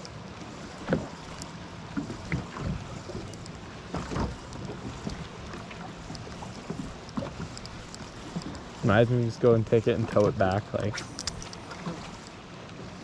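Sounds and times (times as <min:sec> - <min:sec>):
waves lapping against boat hull: 0:00.0 - 0:13.0.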